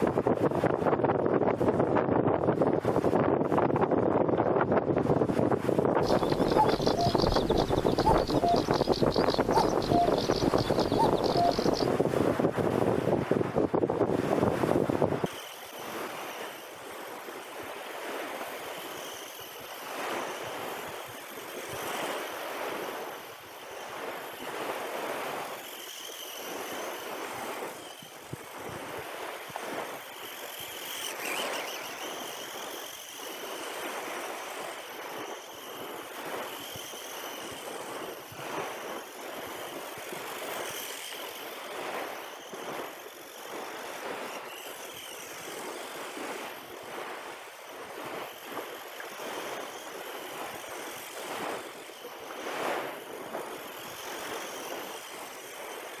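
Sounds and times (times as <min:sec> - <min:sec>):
radio-controlled car motor whining: 0:06.0 - 0:11.9, 0:15.3 - 0:56.0.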